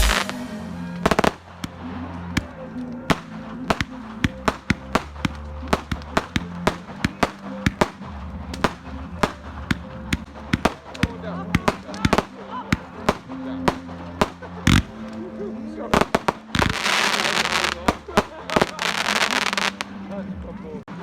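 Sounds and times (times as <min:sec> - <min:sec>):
fireworks cracking and popping: 0:00.0 - 0:19.9.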